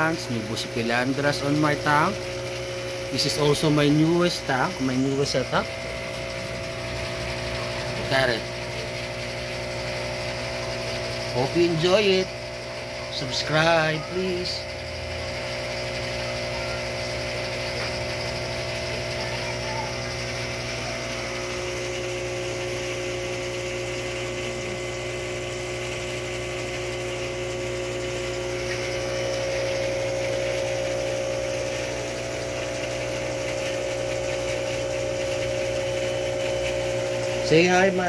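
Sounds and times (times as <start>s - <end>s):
aquarium pump motor hum: 0.0s - 38.0s.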